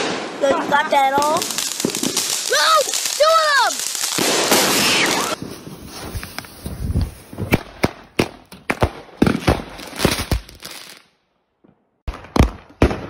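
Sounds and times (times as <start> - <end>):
fireworks bangs and pops: 0.0 - 11.0, 11.6 - 13.0
fireworks crackling: 0.0 - 11.1.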